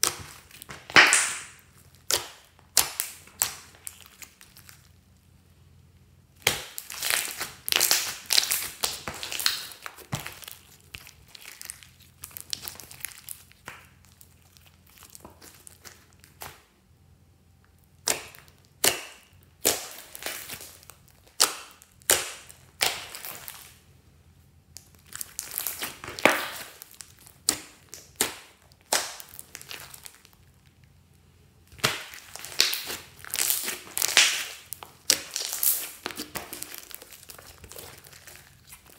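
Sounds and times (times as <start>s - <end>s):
slime squelching and popping: 0.0s - 5.1s, 6.3s - 16.7s, 17.7s - 23.8s, 24.7s - 38.9s.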